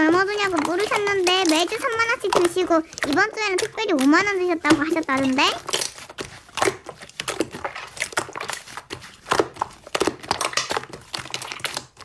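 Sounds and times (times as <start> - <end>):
slime popping and crackling: 0.0 - 12.0.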